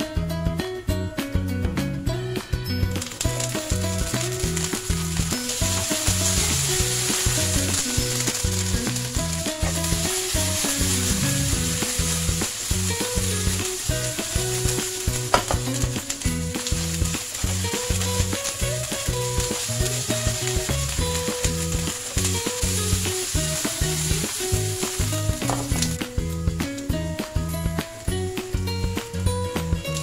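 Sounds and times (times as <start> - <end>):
background music: 0.0 - 30.0
frying pan shaken: 2.8 - 30.0
vegetables sizzling in oil: 2.8 - 30.0.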